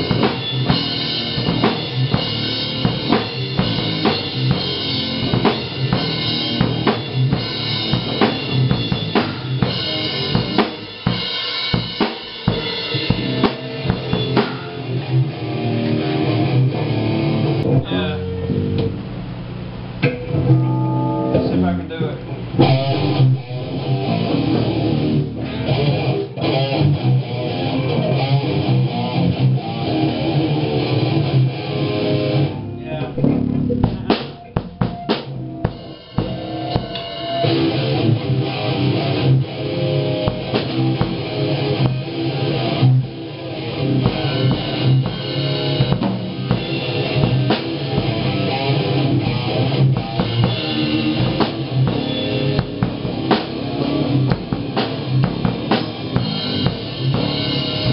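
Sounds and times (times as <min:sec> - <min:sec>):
drum kit: 0:00.0 - 0:57.9
electric guitar rock riffs: 0:00.0 - 0:57.9.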